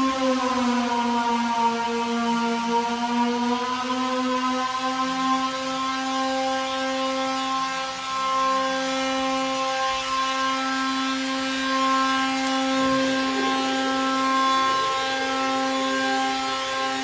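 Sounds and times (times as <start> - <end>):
electric power sander running: 0.0 - 17.0.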